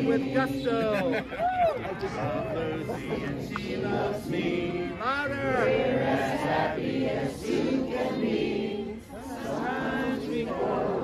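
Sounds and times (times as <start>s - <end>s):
crowd singing in unison: 0.0s - 11.0s.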